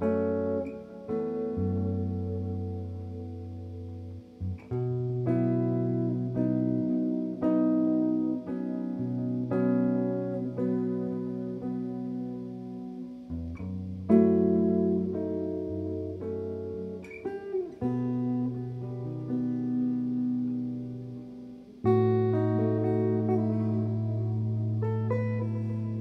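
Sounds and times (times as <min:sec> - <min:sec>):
clean electric guitar chords: 0:00.0 - 0:26.0.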